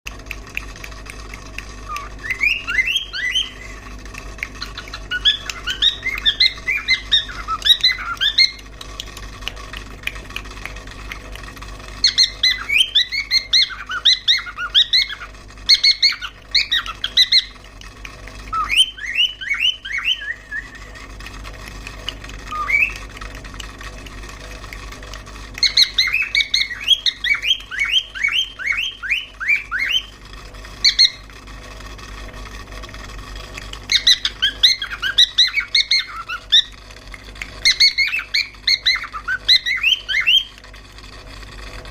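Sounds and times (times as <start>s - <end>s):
steady low hum: 0.1s - 41.9s.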